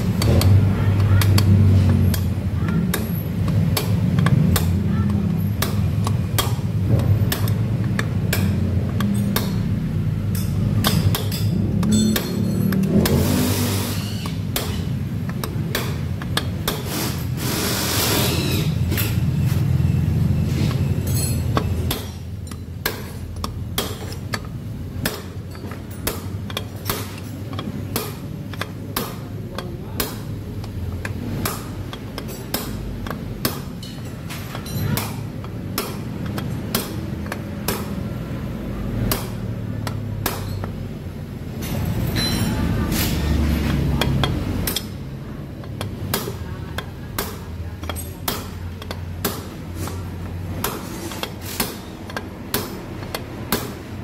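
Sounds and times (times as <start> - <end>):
hammer striking metal rod: 0.0 - 19.6, 20.5 - 38.3, 39.0 - 41.0, 41.6 - 54.0
steady low hum: 0.0 - 54.0.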